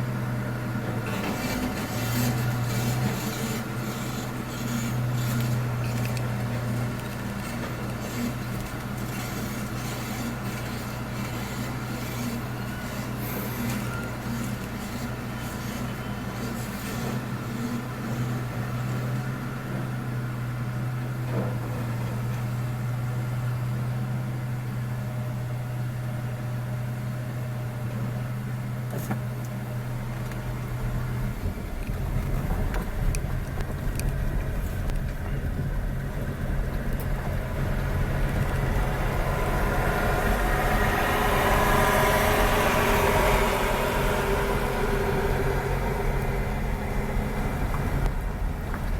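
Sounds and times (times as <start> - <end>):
engine humming: 0.0 - 48.9.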